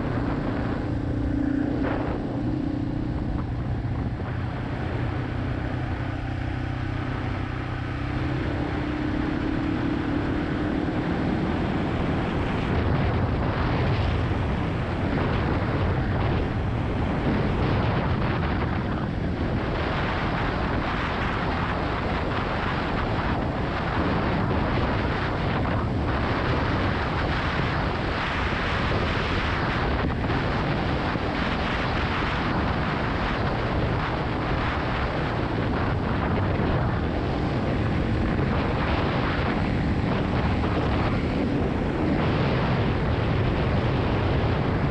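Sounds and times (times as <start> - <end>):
motorcycle engine running: 0.0 - 44.9
wind rush on microphone: 0.0 - 44.9.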